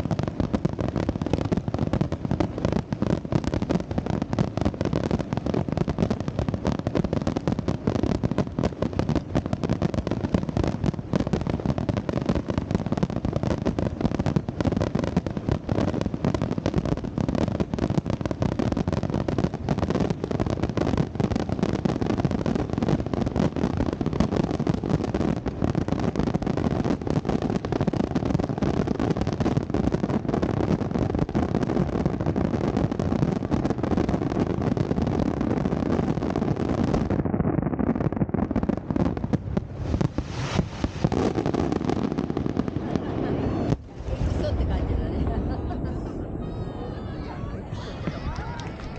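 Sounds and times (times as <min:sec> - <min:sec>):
fireworks rapid bangs: 0:00.0 - 0:48.9.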